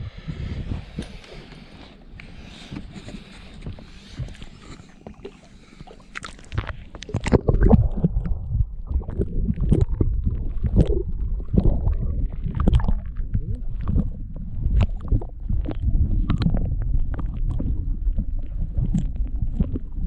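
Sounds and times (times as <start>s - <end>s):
low rumbling on microphone: 0.0s - 20.0s.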